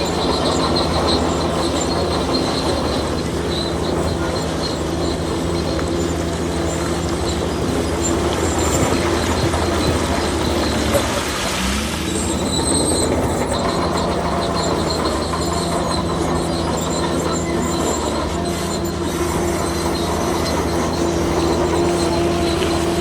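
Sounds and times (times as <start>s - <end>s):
bulldozer diesel engine: 0.0s - 23.0s
high-pitched track squealing: 0.0s - 23.0s
steel tracks clattering: 0.0s - 23.0s.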